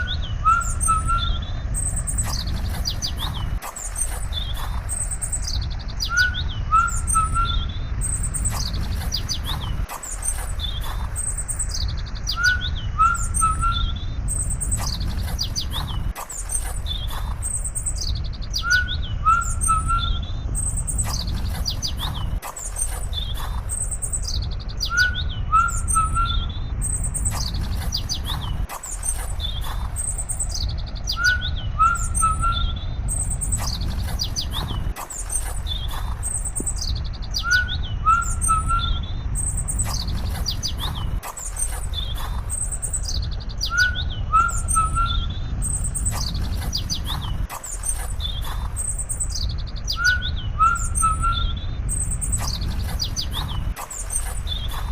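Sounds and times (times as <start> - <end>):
birds chirping and calling: 0.0 - 54.9
steady low rumble: 0.0 - 54.9.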